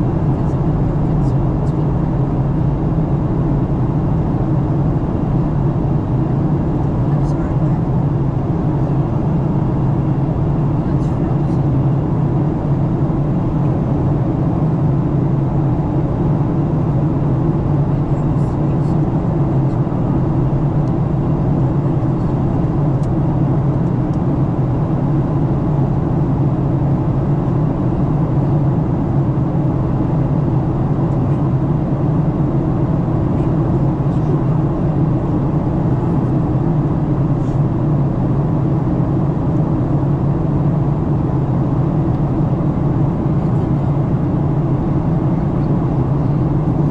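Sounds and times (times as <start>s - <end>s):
jet engines and airflow in cabin: 0.0s - 46.9s.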